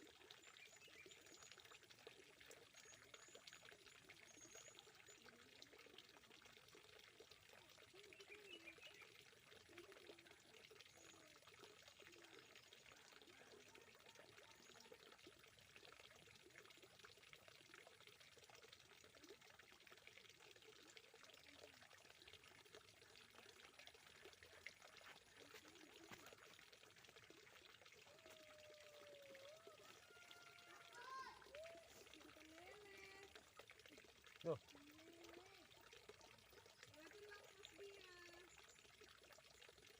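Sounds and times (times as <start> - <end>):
faint trickling water: 0.0 - 39.9.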